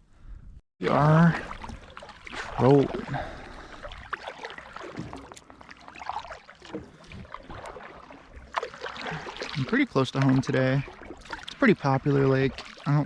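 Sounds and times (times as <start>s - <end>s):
water splashing and lapping: 0.8s - 13.0s.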